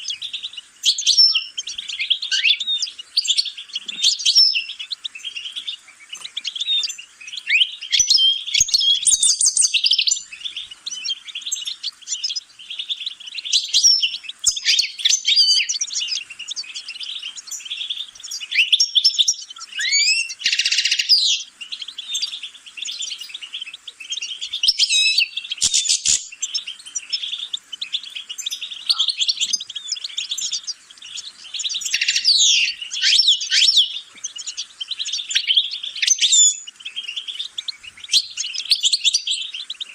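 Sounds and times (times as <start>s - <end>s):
finch twittering and trilling: 0.0s - 39.9s.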